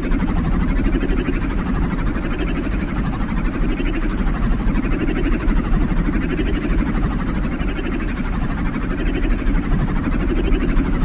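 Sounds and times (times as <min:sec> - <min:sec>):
pulsing electronic drone: 0:00.0 - 0:11.0.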